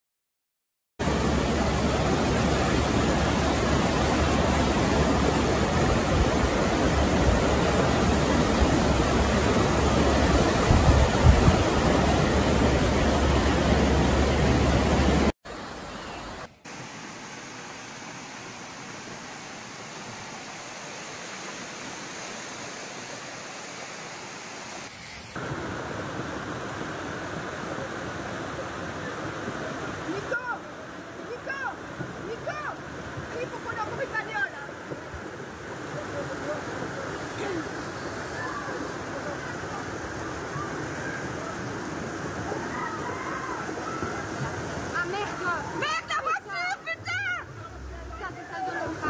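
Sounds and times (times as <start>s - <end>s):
floodwater rushing: 1.0s - 49.0s.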